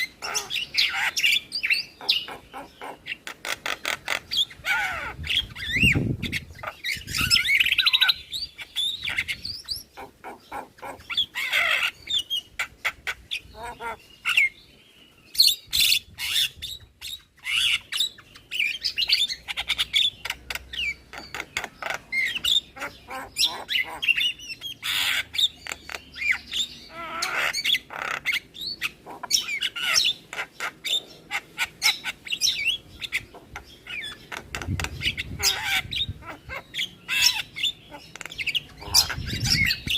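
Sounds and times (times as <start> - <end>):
myna bird singing and chattering: 0.0 - 39.9.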